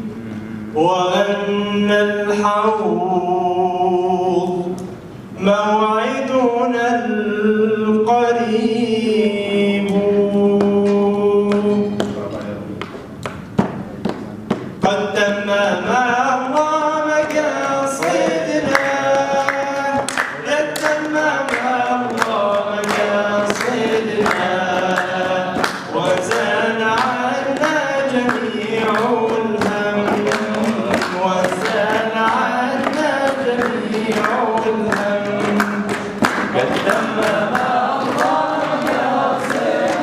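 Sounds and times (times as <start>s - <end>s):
man singing into a microphone: 0.0s - 12.4s, 14.8s - 37.6s.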